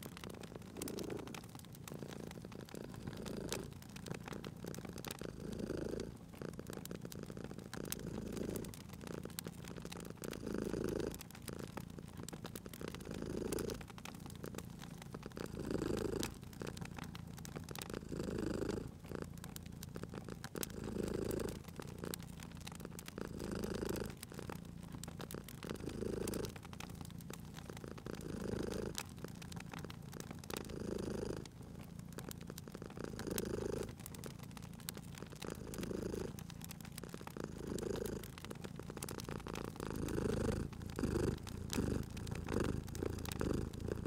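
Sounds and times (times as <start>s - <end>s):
cat purring: 0.0s - 44.0s
wood fire crackling: 0.0s - 44.0s.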